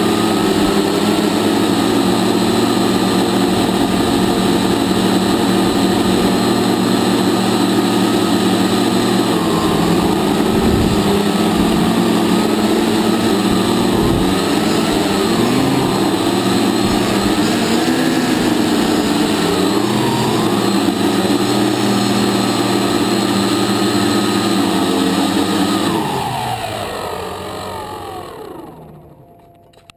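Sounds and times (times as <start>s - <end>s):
drone motors buzzing: 0.0s - 29.9s.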